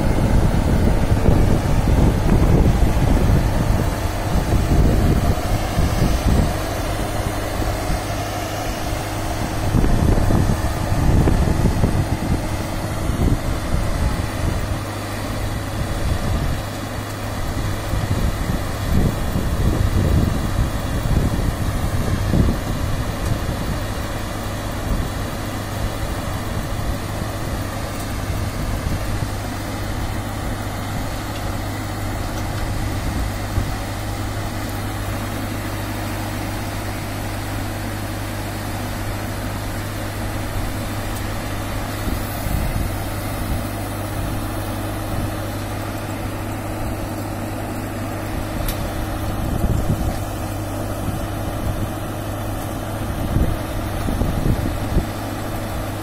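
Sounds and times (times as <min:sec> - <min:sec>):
engine running with low hum: 0:00.0 - 0:56.0
wind buffeting microphone: 0:00.0 - 0:56.0.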